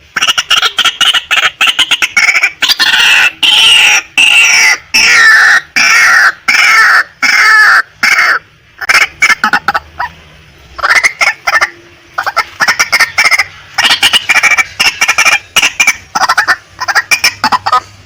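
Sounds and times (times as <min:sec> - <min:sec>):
waterhen clucking calls: 0:00.0 - 0:18.0.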